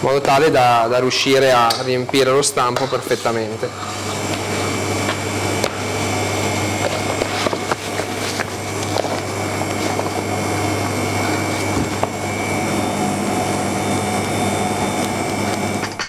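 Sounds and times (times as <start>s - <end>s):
kitchen machinery humming: 0.0s - 16.0s
thin high whine: 2.3s - 16.0s.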